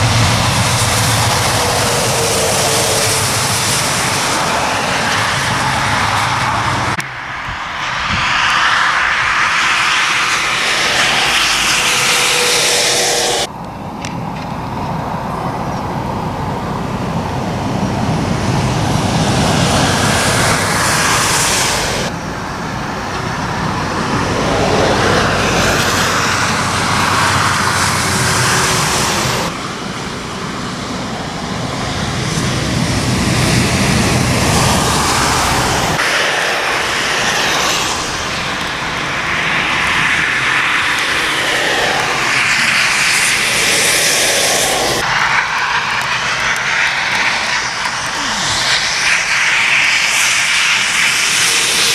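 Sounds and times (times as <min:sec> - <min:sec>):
diesel truck engines rumbling: 0:00.0 - 0:51.9
tyres hissing on wet road: 0:00.0 - 0:51.9.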